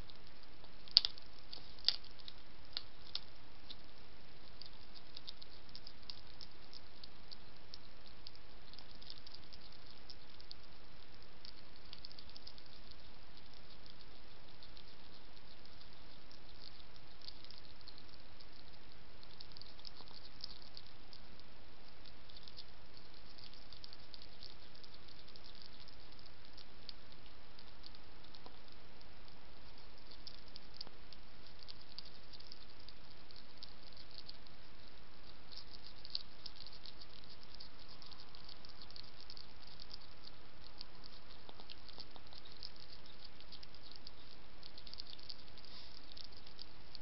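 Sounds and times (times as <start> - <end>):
hedgehog crunching dry biscuits: 0.0 - 47.0
microphone hiss: 0.0 - 47.0.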